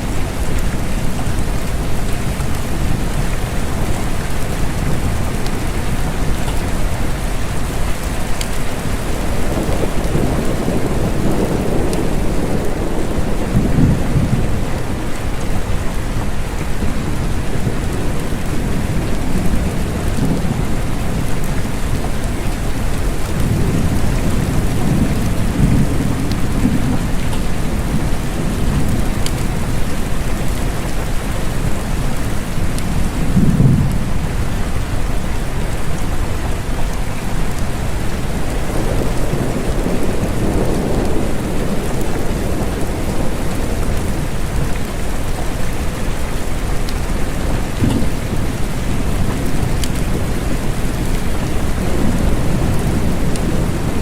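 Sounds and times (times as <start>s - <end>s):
distant thunder rumbling: 0.0s - 35.3s, 37.1s - 54.0s
steady rain falling: 0.0s - 54.0s.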